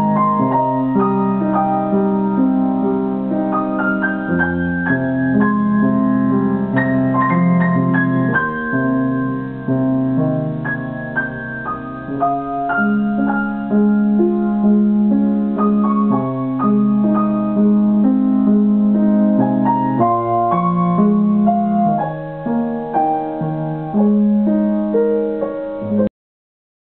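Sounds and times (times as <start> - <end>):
instrumental music: 0.0 - 26.1.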